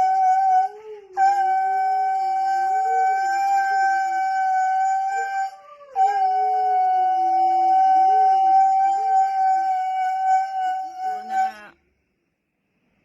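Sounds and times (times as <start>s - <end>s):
dog howling: 0.0s - 11.7s
steady high held tone: 0.0s - 11.8s.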